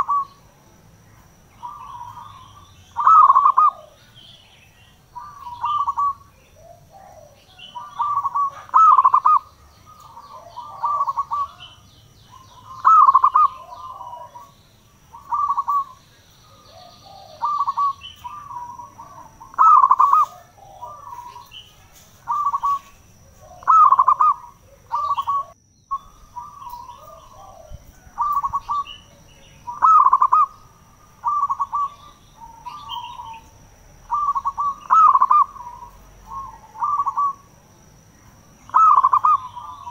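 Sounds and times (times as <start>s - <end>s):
dove cooing: 0.0s - 0.5s, 1.6s - 37.6s, 38.6s - 39.9s.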